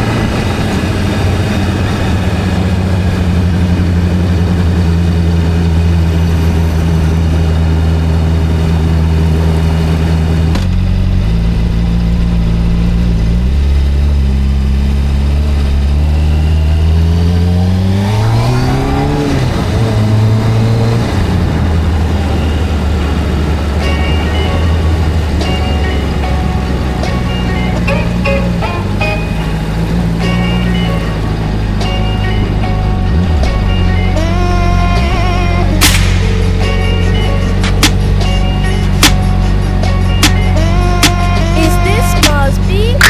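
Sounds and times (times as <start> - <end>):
video game motorcycle engine: 0.0 - 43.0.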